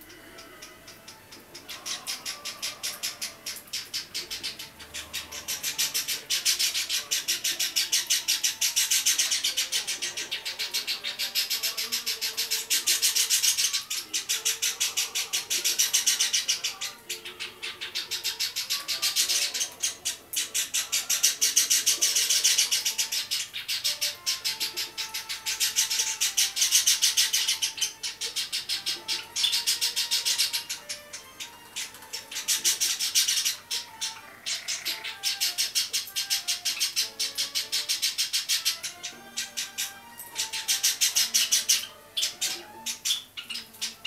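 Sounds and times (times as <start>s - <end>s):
bird chick chirping: 0.0s - 44.0s.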